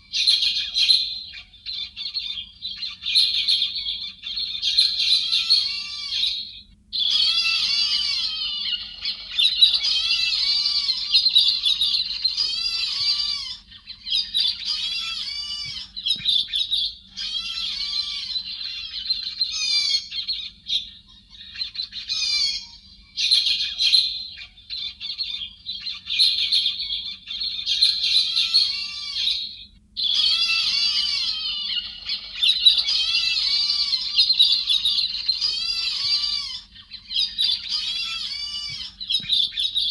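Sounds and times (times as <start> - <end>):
flock of thrushes chirping: 0.0 - 39.9.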